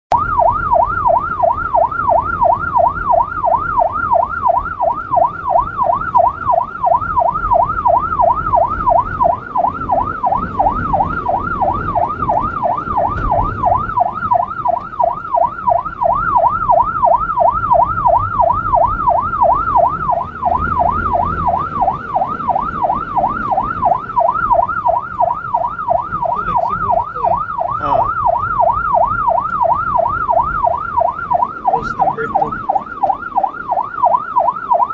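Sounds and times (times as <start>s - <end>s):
low road rumble: 0.1s - 34.9s
siren in a fast yelp: 0.1s - 34.9s.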